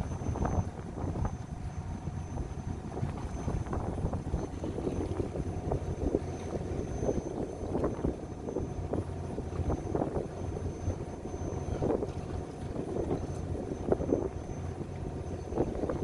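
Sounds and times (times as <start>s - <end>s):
boat engine humming: 0.0s - 16.0s
wind crackle on microphone: 0.0s - 16.0s.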